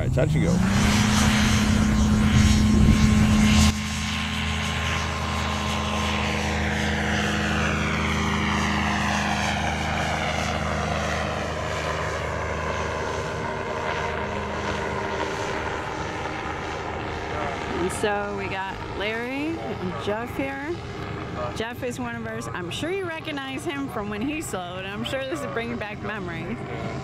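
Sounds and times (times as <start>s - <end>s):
propeller engine droning: 0.0s - 27.0s.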